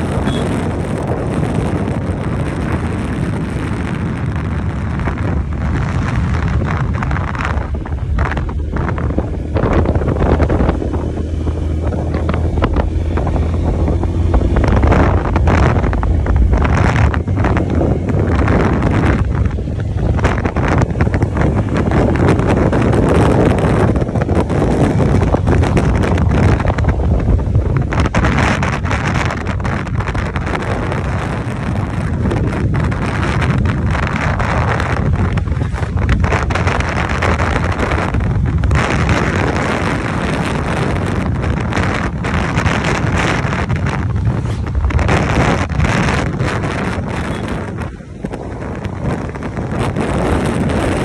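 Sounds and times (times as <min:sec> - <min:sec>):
motorcycle engine: 0:00.0 - 0:51.0
road noise: 0:00.0 - 0:51.0
wind buffeting on microphone: 0:00.0 - 0:51.0.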